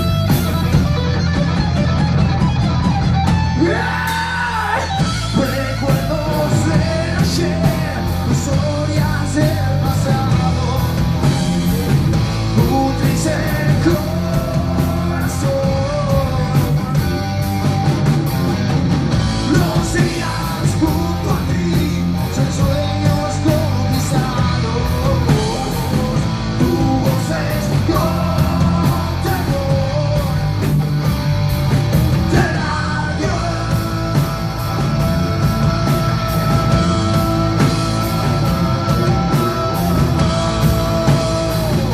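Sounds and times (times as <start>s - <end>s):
rock band playing: 0.0s - 41.9s
person singing: 3.5s - 17.3s, 19.4s - 30.6s, 32.2s - 41.9s.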